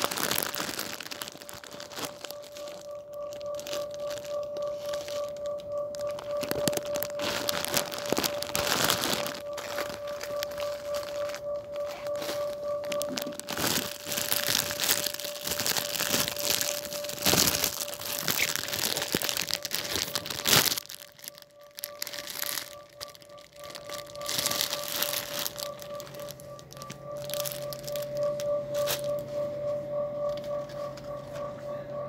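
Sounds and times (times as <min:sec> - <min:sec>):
plastic packaging crinkling: 0:00.0 - 0:29.4
steady hum: 0:01.3 - 0:20.2, 0:22.7 - 0:32.0.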